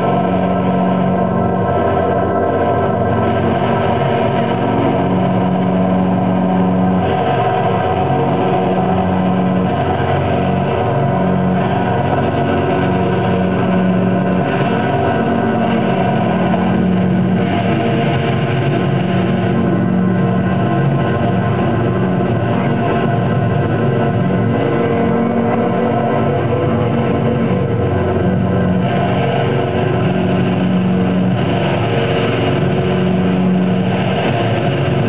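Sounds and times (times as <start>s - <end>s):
electronic drone of held tones: 0.0s - 35.0s.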